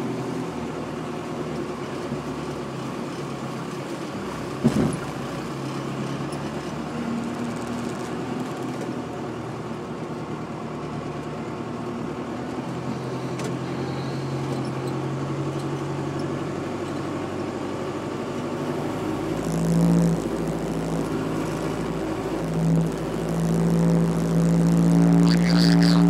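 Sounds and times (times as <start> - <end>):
car engine droning and revving: 0.0 - 26.0.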